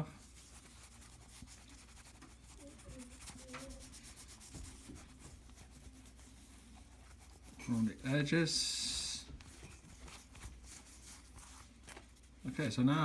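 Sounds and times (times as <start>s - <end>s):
cloth rubbing: 0.0s - 12.8s.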